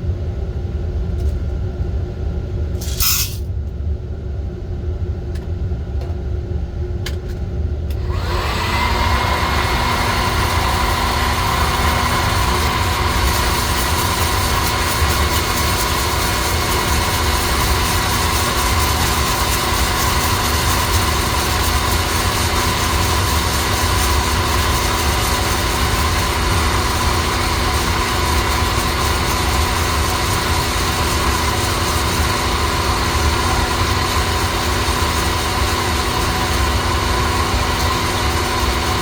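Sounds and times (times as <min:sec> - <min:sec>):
coffee roaster droning: 0:02.7 - 0:03.4, 0:07.2 - 0:39.0.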